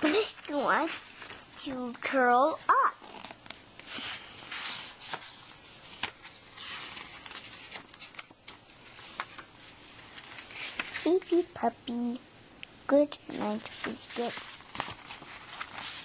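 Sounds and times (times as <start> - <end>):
soft rustling and handling noise: 0.0 - 11.6, 13.0 - 16.0.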